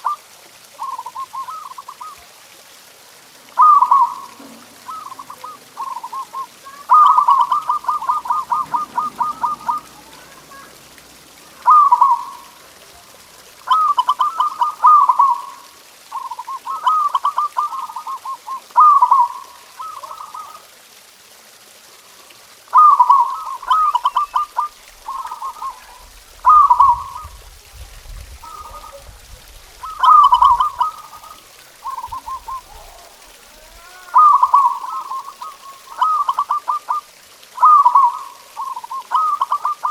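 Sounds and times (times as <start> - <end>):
dove cooing: 0.8 - 2.4, 3.5 - 20.7, 22.7 - 39.9.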